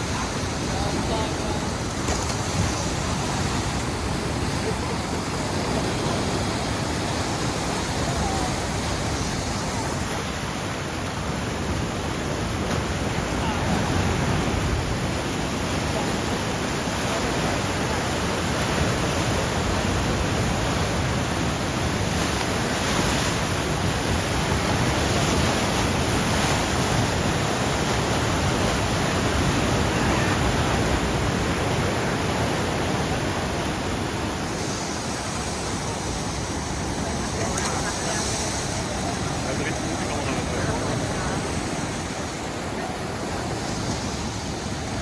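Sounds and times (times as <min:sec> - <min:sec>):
heavy ocean surf roaring: 0:00.0 - 0:45.0.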